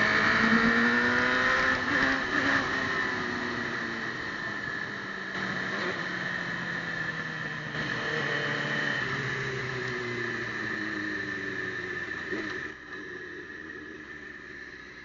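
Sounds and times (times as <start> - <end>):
motorcycle engine riding: 0.0 - 15.0.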